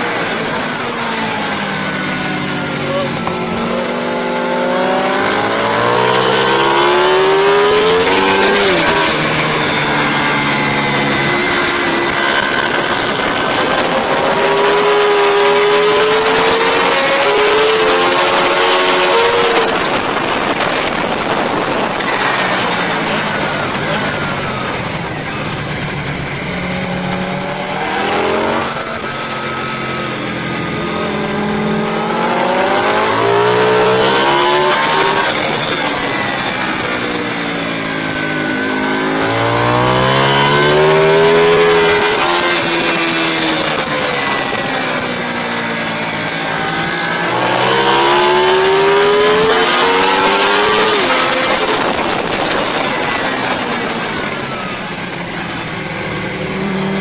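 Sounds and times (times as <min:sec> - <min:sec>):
racing motorcycle engines revving: 0:00.0 - 0:57.0.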